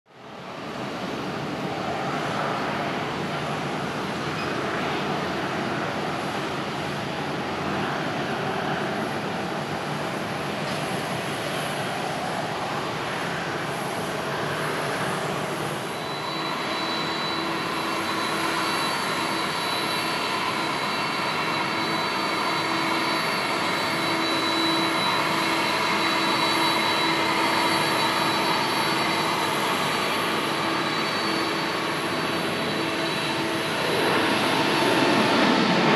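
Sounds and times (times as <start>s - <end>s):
high fan whine: 0.1s - 35.9s
jet engine roar: 0.5s - 35.9s.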